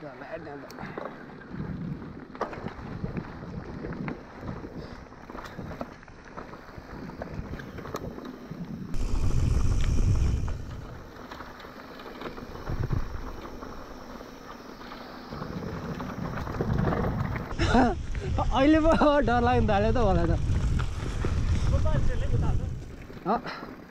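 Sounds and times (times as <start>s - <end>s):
wind buffeting microphone: 1.2s - 11.4s, 12.4s - 23.3s.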